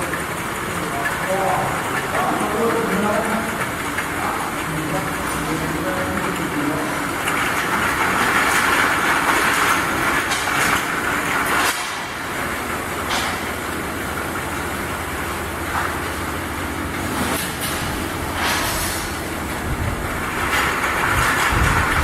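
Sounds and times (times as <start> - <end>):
bottle washing machine clatter and hiss: 0.0 - 22.0.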